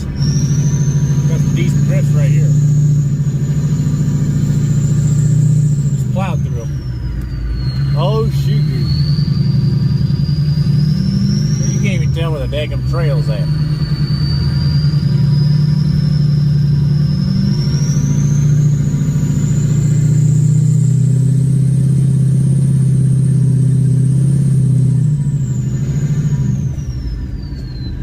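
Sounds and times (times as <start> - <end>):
diesel engine pulling under load: 0.0 - 28.0
turbo whistle: 0.0 - 28.0.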